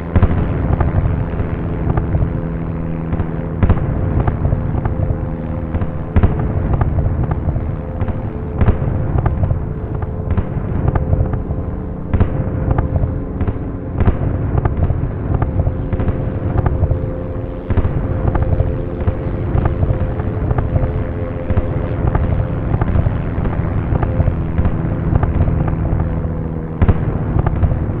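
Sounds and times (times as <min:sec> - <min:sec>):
low droning hum: 0:00.0 - 0:28.0
explosions rumbling: 0:00.1 - 0:28.0.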